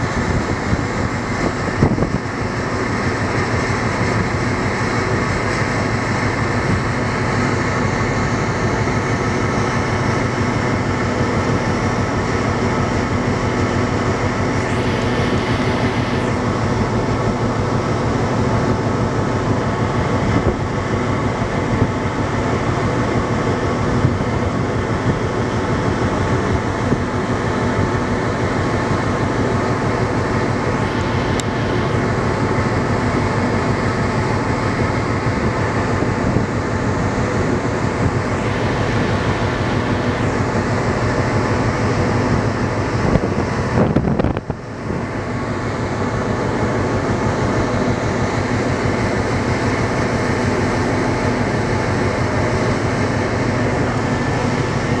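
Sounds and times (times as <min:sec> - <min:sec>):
ferry engines droning: 0:00.0 - 0:55.0.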